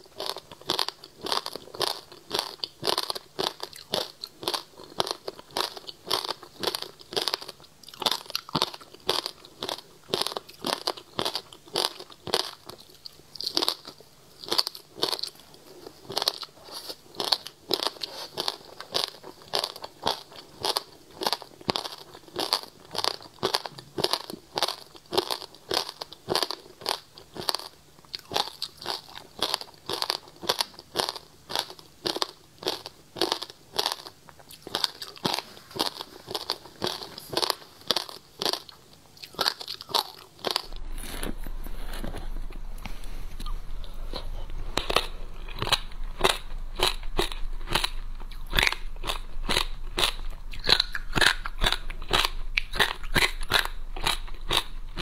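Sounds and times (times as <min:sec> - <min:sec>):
chewing icy crunches: 0:00.1 - 0:41.3, 0:44.1 - 0:55.0.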